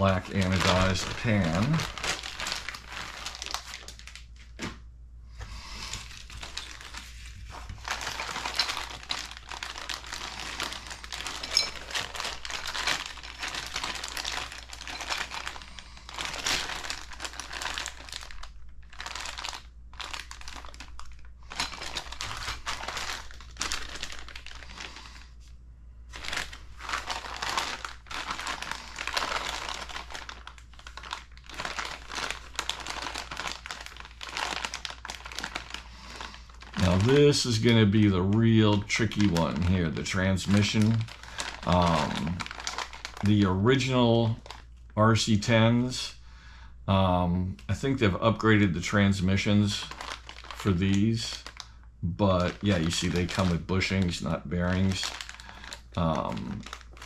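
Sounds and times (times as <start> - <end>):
plastic bags crinkling: 0.0 - 4.8, 5.6 - 25.4, 26.1 - 45.9, 47.7 - 57.0.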